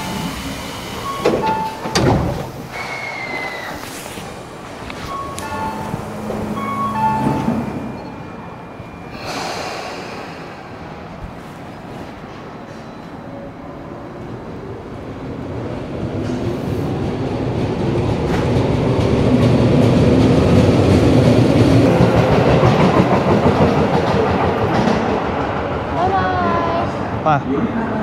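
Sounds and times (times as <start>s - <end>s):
electric train on rails: 0.0s - 28.0s.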